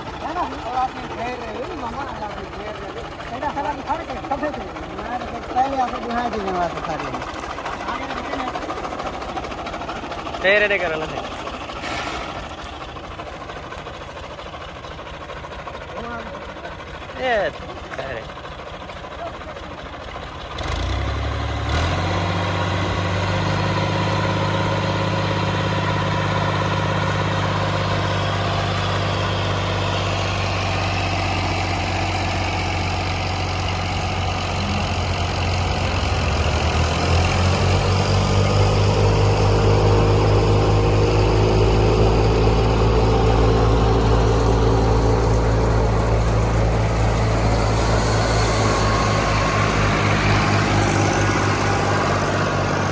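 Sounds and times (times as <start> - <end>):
combine harvester engine running: 0.0 - 52.9.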